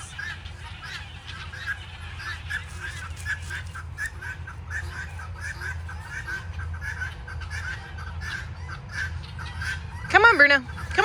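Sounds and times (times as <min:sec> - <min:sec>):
guinea fowl calling: 0:00.0 - 0:11.0.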